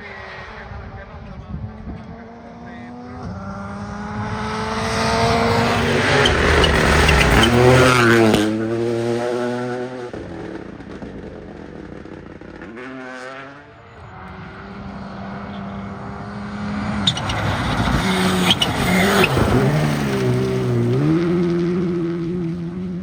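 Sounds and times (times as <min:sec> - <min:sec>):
rally car engine: 0:00.0 - 0:23.0.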